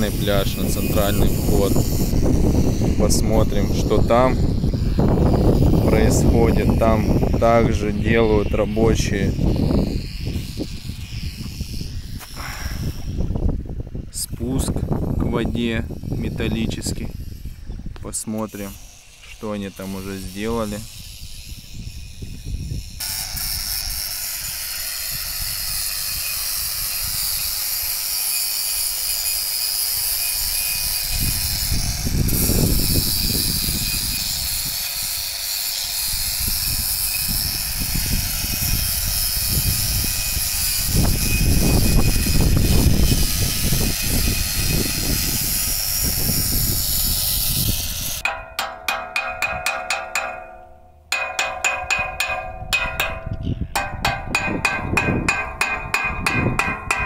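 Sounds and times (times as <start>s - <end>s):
angle grinder on metal pole: 0.0s - 57.0s.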